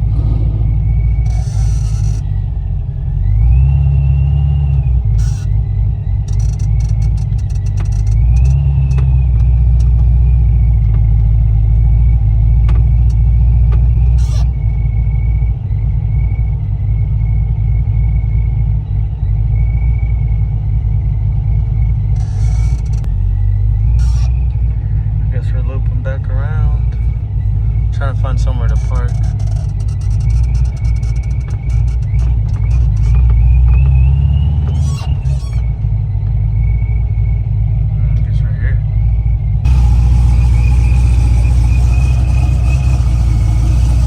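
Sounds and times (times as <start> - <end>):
car engine and road noise: 0.0 - 44.0
faint whine: 0.7 - 3.4, 4.6 - 44.0.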